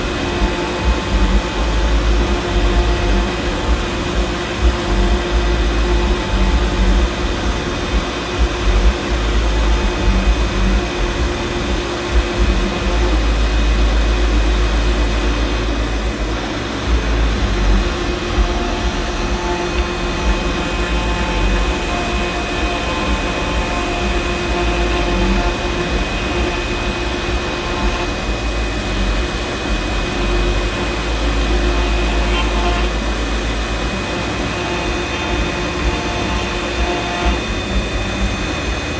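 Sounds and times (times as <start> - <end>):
low rumble: 0.0 - 34.1
axis motor tones: 0.0 - 38.9
spindle motor whine: 0.0 - 38.9.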